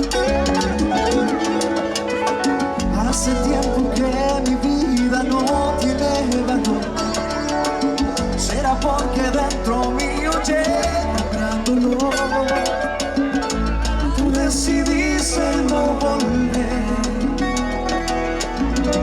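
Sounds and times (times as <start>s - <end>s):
latin dance band playing: 0.0s - 19.0s.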